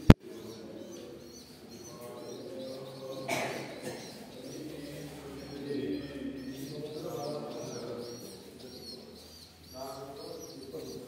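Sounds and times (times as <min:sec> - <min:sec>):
birds chirping: 0:00.0 - 0:11.0
low cooing: 0:00.0 - 0:11.0.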